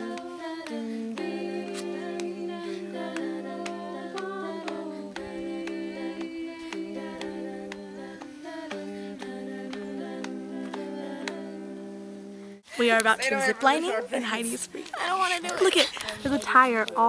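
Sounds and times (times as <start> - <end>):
a cappella group singing harmony: 0.0 - 14.1.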